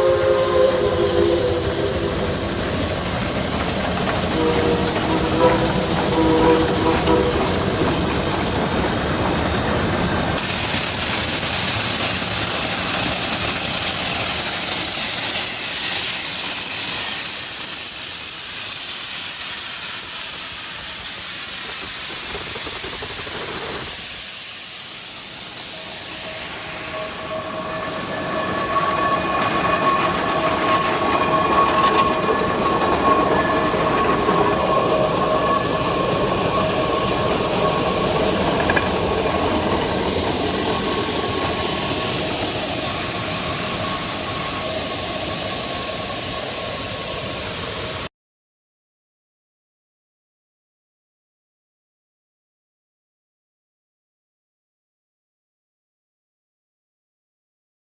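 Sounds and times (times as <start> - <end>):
high whistling tones: 0.0 - 48.1
steam locomotive hissing: 0.0 - 48.1
steady pitched ringing tone: 0.6 - 48.1.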